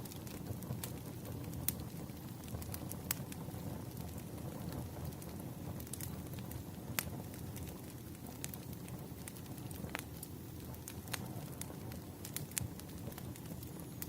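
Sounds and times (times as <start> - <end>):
sharp pops of burning wood: 0.0 - 14.0
wood fire crackling: 0.0 - 14.0.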